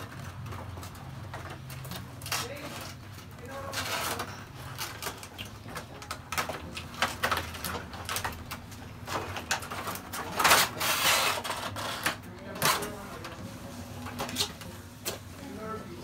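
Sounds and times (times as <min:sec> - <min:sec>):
plastic toys clicking and knocking: 0:00.0 - 0:13.0
packaging rustling: 0:00.0 - 0:15.8.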